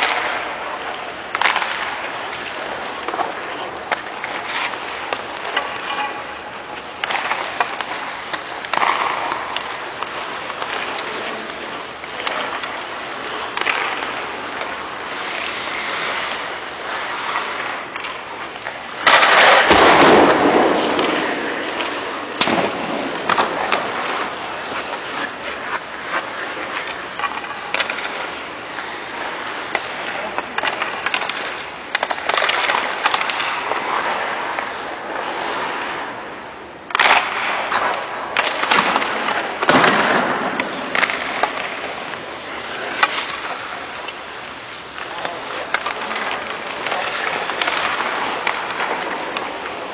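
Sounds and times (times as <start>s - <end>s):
skates scraping on ice: 0.0s - 49.9s
stick and puck clacks: 0.0s - 49.9s.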